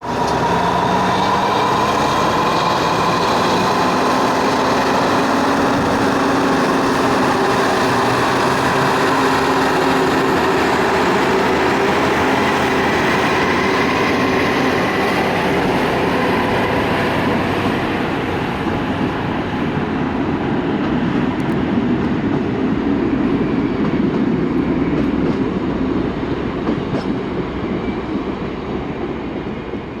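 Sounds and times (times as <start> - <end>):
tram rail rumble: 0.0 - 30.0.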